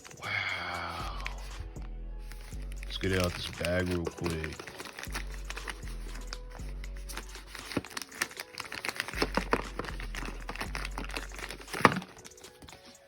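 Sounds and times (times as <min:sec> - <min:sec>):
bag crinkling: 0:02.2 - 0:13.0.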